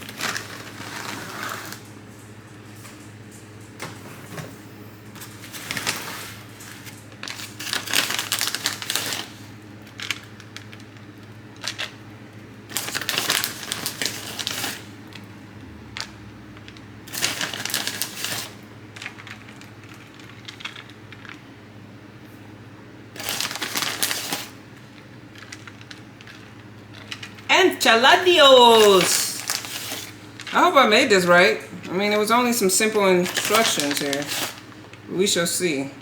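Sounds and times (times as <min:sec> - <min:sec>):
crinkling handling noise: 0:00.0 - 0:22.5, 0:23.1 - 0:35.3.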